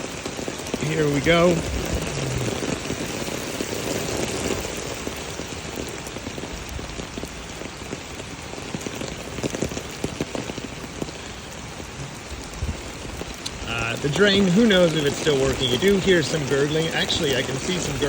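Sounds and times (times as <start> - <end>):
floodwater rushing: 0.0 - 18.0
rain splashing on street: 0.0 - 18.0.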